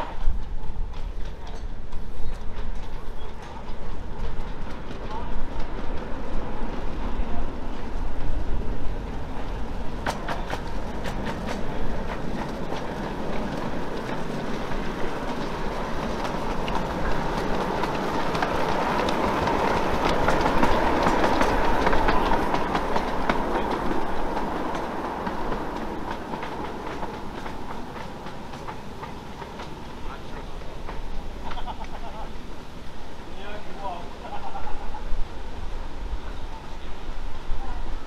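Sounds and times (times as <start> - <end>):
miniature steam locomotive passing: 0.0 - 38.0
wheels clicking over rail joints: 0.0 - 38.0.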